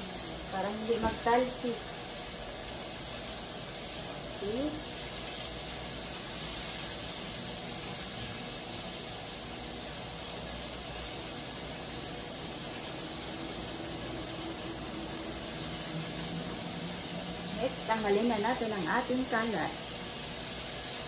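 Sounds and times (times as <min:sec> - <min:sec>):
tofu sizzling in hot oil: 0:00.0 - 0:21.0.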